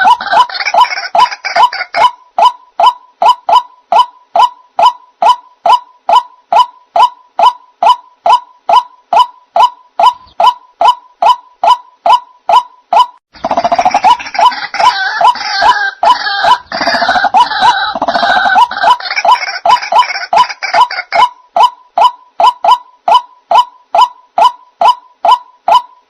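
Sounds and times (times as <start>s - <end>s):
waterhen kwak calls: 0.0s - 26.0s.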